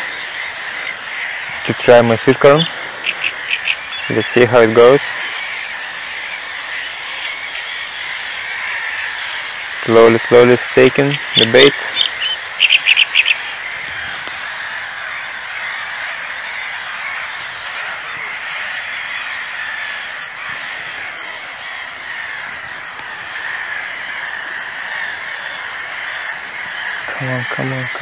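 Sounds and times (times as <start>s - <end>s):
chorus of wild animal calls: 0.0s - 28.0s.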